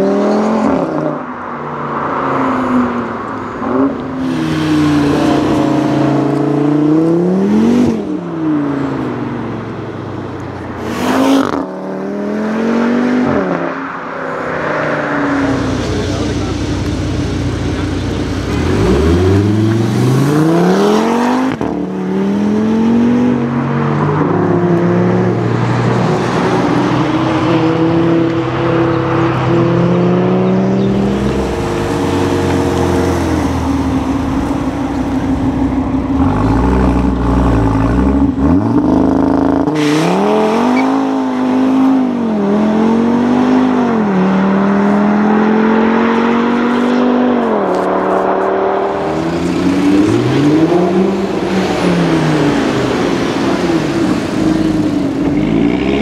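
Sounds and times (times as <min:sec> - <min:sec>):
car engine accelerating hard: 0:10.8 - 0:56.0.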